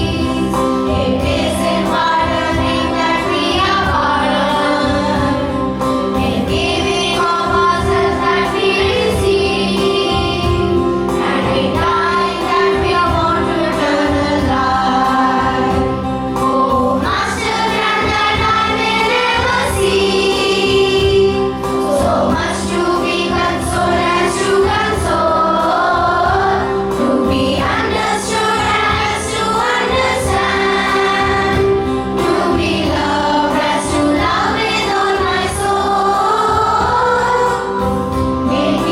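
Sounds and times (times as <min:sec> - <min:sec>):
children's choir singing: 0:00.0 - 0:38.9
instrumental accompaniment with beat: 0:00.0 - 0:38.9.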